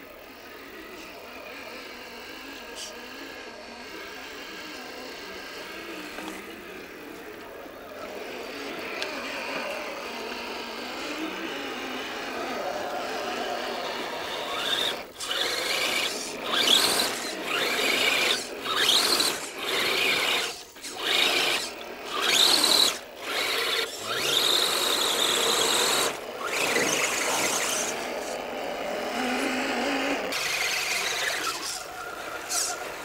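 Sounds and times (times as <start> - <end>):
toy truck electric motors whining: 0.0 - 33.0.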